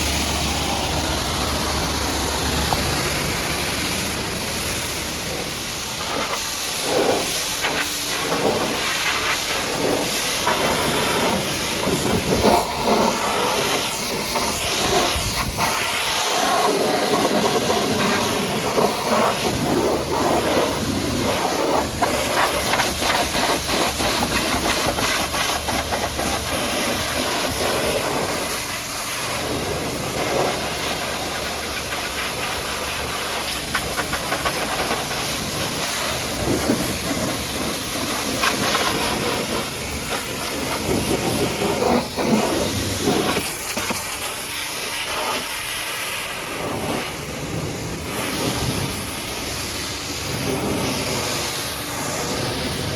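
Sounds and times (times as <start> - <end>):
pressure washer spraying: 0.0 - 52.9.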